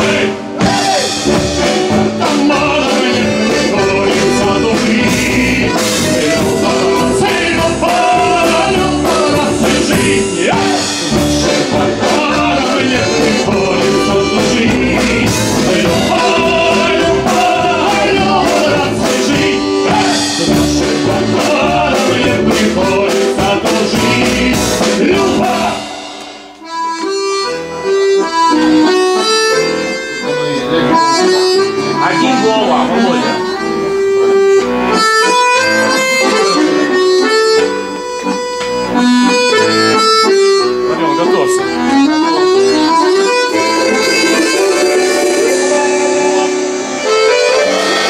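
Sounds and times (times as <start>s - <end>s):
accordion band music: 0.0s - 48.0s.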